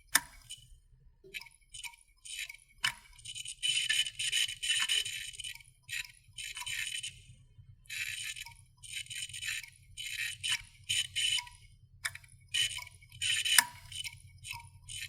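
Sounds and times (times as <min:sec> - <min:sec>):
hard drive clicking: 0:01.3 - 0:15.0.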